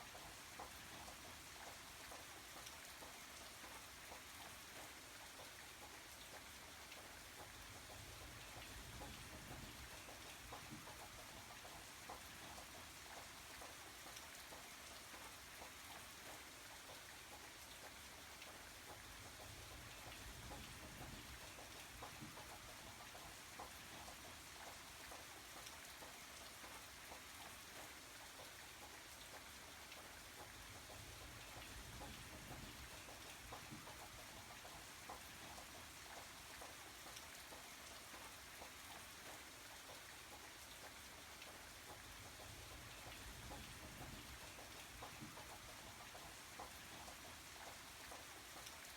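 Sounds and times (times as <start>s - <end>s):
faint steady rain: 0.0s - 48.9s
raindrop ticks: 0.1s - 48.9s.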